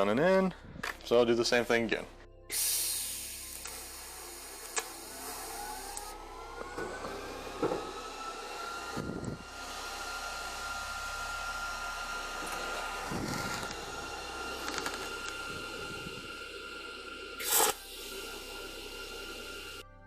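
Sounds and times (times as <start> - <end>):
small electric motor whine: 2.8 - 19.9.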